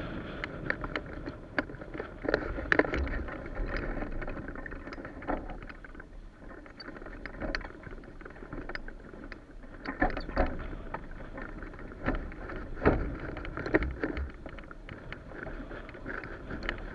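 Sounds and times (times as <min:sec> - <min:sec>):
knocks and rattles from glider frame: 0:00.0 - 0:16.9.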